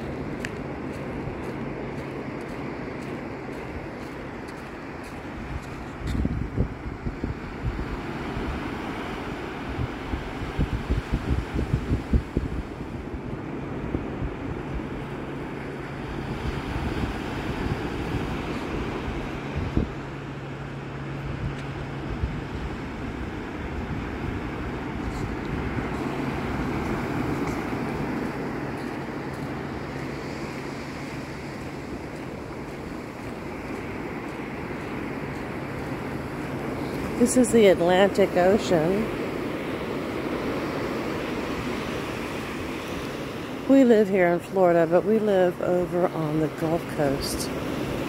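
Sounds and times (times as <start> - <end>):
low steady hum: 0.0 - 48.0
waves breaking on beach: 0.0 - 48.0
wind on microphone: 5.1 - 48.0.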